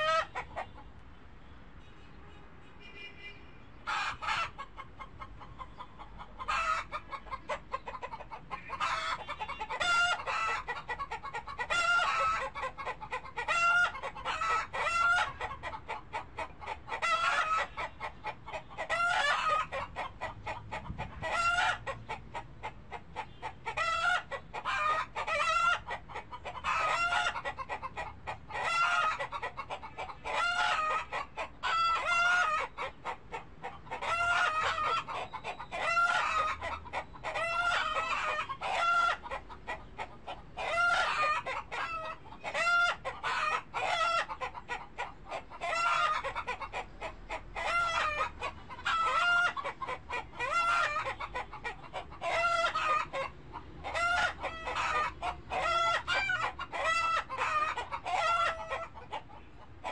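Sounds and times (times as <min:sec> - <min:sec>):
chickens clucking: 0:00.0 - 0:01.1, 0:03.8 - 0:59.9.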